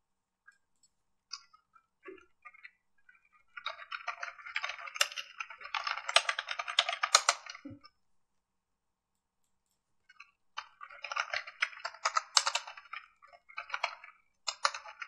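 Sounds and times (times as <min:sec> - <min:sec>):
keyboard typing: 0:00.5 - 0:07.8, 0:09.6 - 0:15.0.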